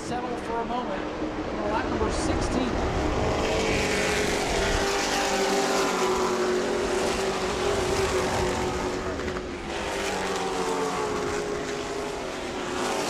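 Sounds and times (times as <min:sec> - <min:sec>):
racing truck engines: 0:00.0 - 0:13.0.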